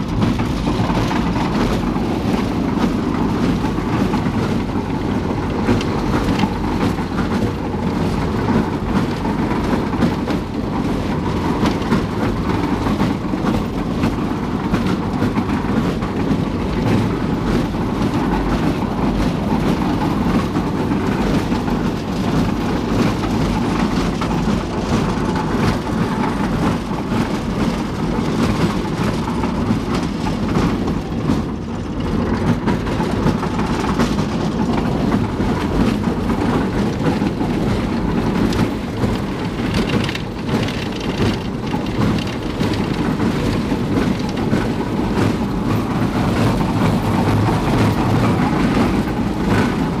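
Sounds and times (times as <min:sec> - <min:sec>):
half-track engine rumble: 0:00.0 - 0:50.0
tracks rattling and knocking: 0:00.0 - 0:50.0.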